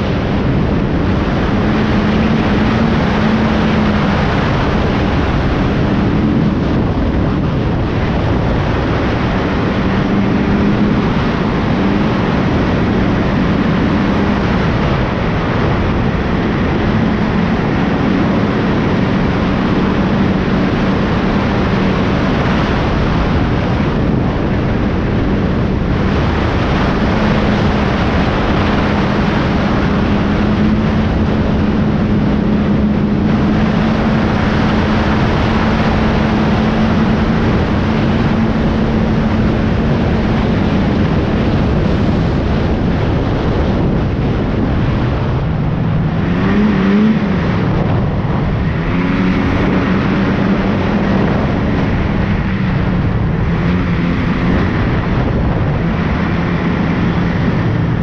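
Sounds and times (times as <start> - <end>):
rushing noise: 0.0 - 58.0
snowmobile engine running: 0.0 - 58.0.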